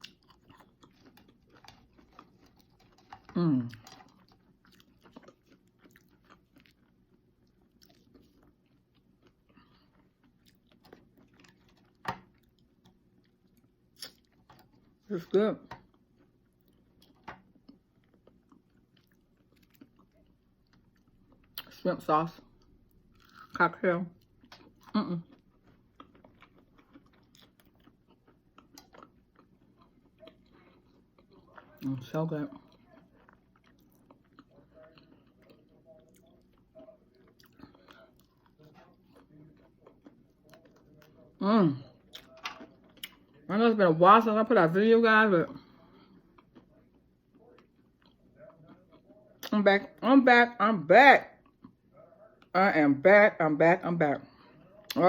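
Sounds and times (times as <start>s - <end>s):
chewing and biting: 0.0s - 21.8s, 24.2s - 43.5s, 45.6s - 49.5s.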